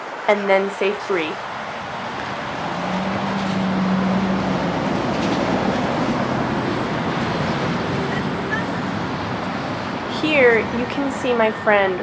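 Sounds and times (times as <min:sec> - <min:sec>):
street traffic noise: 0:00.0 - 0:12.0
passing vehicle engine hum: 0:01.1 - 0:11.9.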